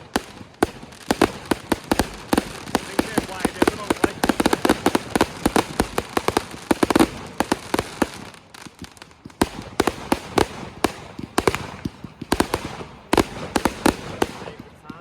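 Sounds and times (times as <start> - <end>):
firework bangs and cracks: 0.0 - 15.0.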